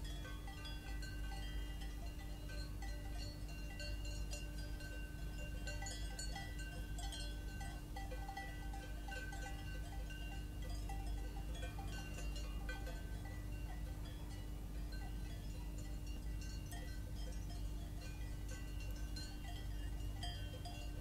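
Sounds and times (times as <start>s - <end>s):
cowbells clanking: 0.0s - 21.0s
low hum and rumble: 0.0s - 21.0s.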